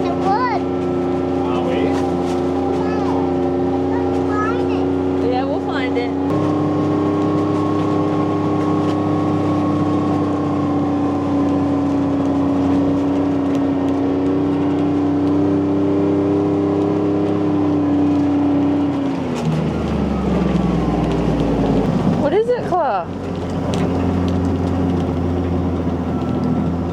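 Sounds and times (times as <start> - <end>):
small farm vehicle engine: 0.0 - 26.9.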